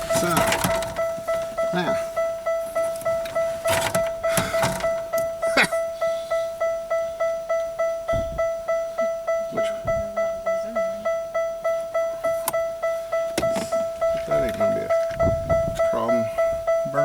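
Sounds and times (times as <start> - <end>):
car warning chime dinging: 0.0 - 17.0.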